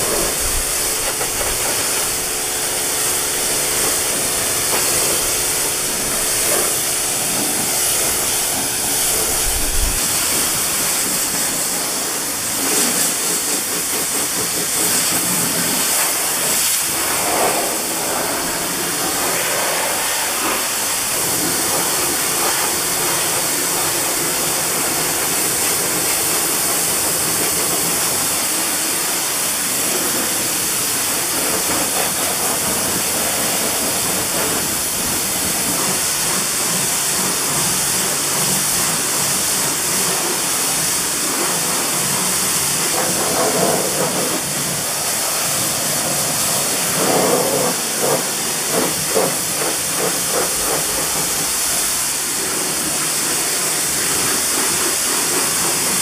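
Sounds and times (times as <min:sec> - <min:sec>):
pressure washer spraying water: 0:00.0 - 0:56.0.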